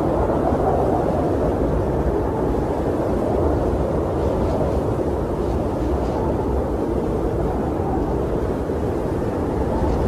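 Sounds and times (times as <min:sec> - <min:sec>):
blizzard wind rushing: 0:00.0 - 0:10.0.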